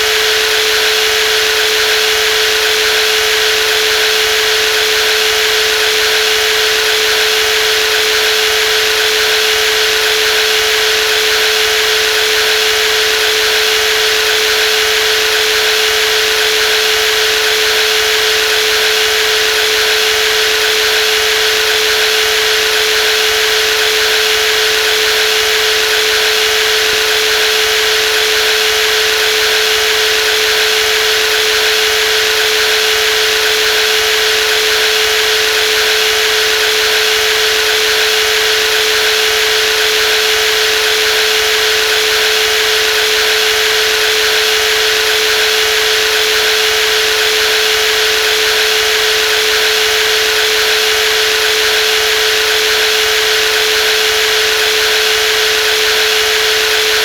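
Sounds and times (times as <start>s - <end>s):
jigsaw whining: 0.0s - 57.0s.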